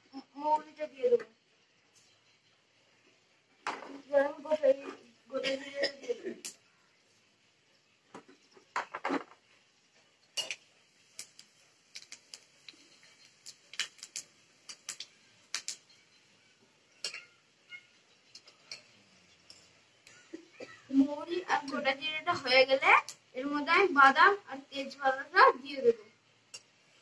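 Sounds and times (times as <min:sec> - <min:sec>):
seeds frying in oil: 0:00.0 - 0:27.0.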